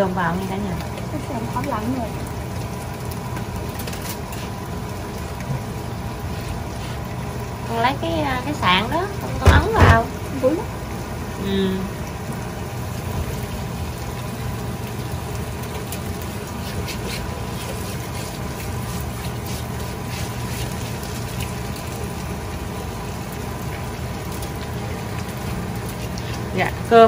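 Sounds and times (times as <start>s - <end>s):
rice sizzling in a pan: 0.0s - 27.0s.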